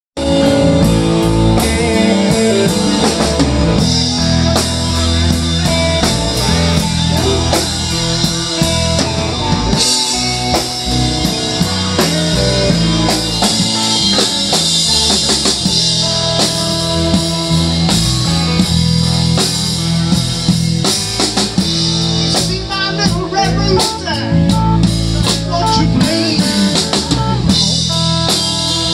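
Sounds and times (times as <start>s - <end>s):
drum kit beat: 0.2s - 28.9s
electric guitars: 0.2s - 28.9s
live blues band: 0.2s - 28.9s.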